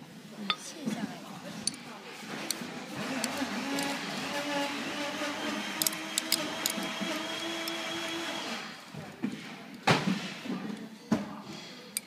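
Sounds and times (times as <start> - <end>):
mechanical hum with high whine: 0.0 - 12.0.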